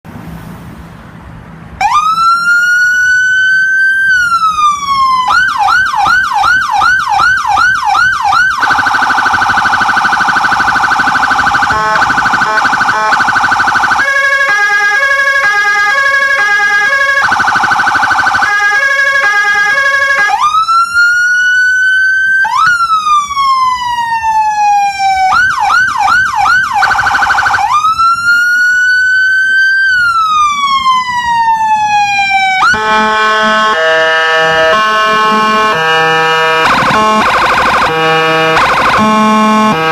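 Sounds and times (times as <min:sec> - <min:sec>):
electronic siren wailing and yelping: 0:01.8 - 0:39.9.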